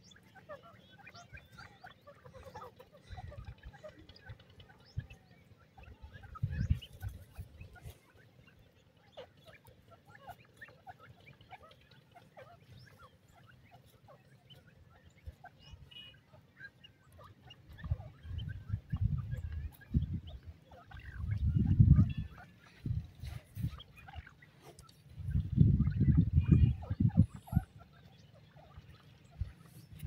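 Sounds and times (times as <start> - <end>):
bird calls and chirps: 0.0 - 30.0.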